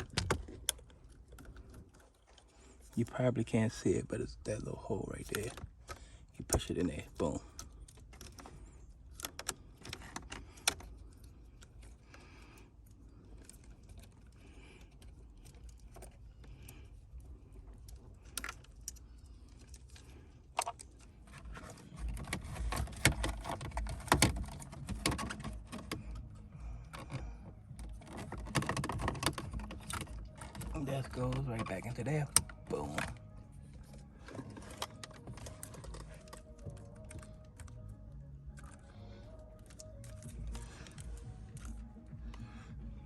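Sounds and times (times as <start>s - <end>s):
plastic parts clicking and rattling: 0.0s - 42.9s.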